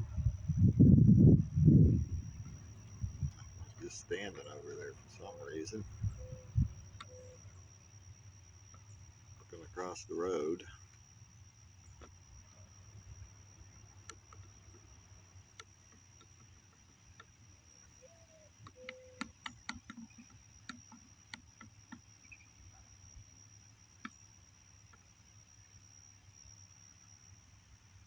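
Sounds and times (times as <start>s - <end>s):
insect trill: 0.0s - 28.0s.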